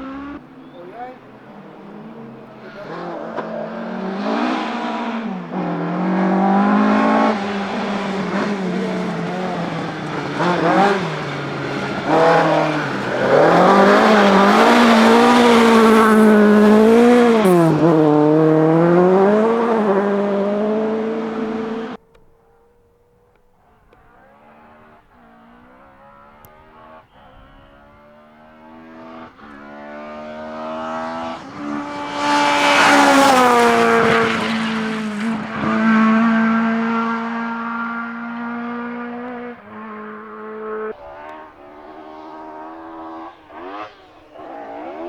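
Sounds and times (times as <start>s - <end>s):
rally car engine revving: 0.0s - 22.7s, 23.3s - 45.0s.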